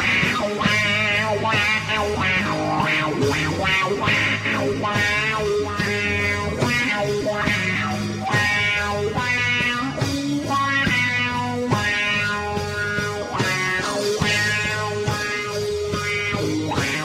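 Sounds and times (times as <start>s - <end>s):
electric guitar ringing notes: 0.0s - 17.0s.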